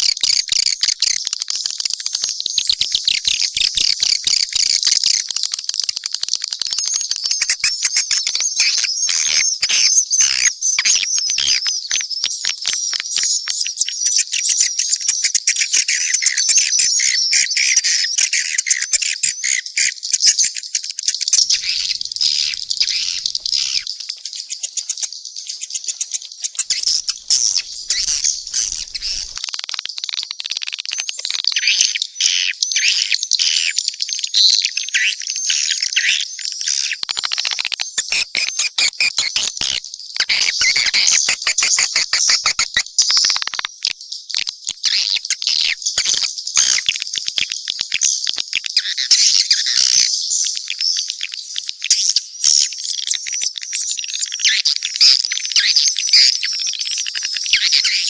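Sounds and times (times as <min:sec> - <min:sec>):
birds twittering and clicking: 0:00.0 - 0:58.0.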